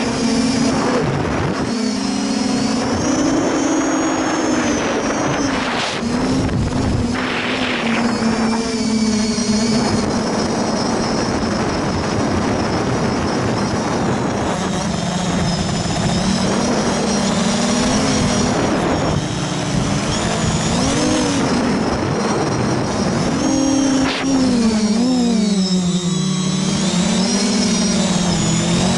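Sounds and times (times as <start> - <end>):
quadcopter motors buzzing: 0.0 - 28.9.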